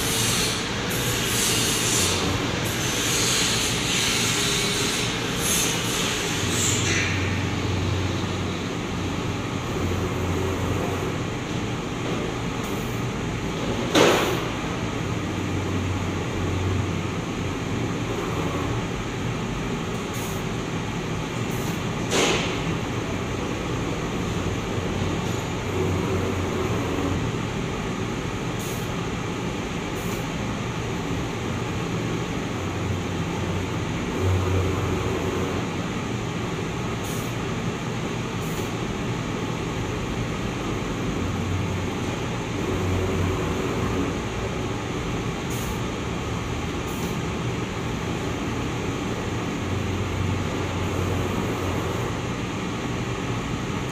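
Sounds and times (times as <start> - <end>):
printing machine mechanical hum: 0.0 - 53.9.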